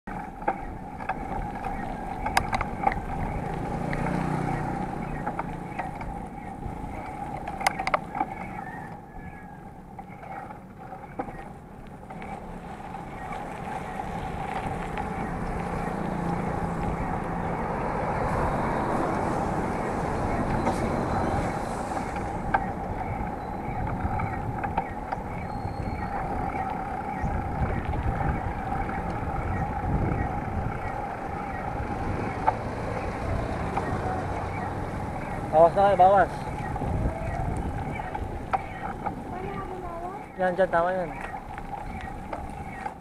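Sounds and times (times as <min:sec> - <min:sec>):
muffled wind and road noise: 0:00.1 - 0:43.0.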